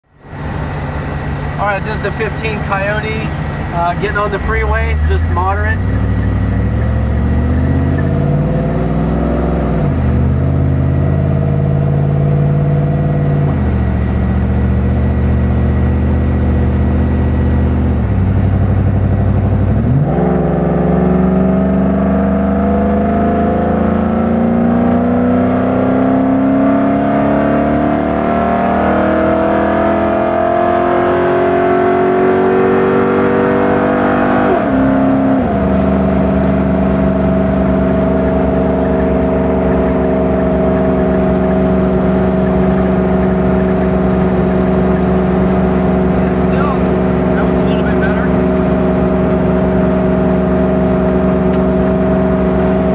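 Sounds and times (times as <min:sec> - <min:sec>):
car exhaust accelerating: 0:00.0 - 0:52.9.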